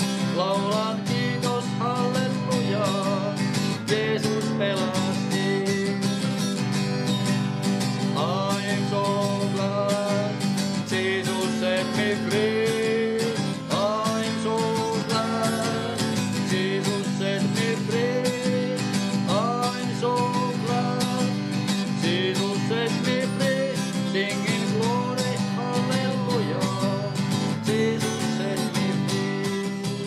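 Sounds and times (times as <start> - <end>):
man singing: 0.0 - 6.6, 7.9 - 30.0
strummed acoustic guitar: 0.0 - 30.0.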